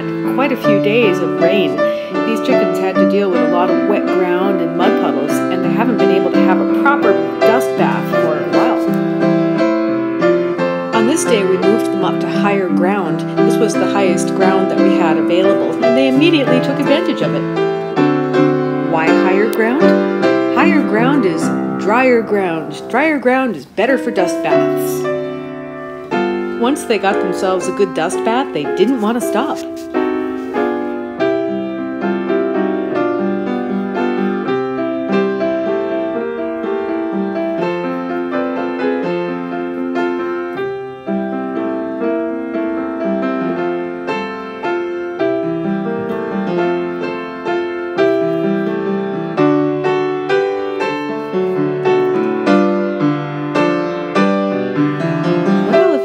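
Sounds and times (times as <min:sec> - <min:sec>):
keyboard music: 0:00.0 - 0:56.0.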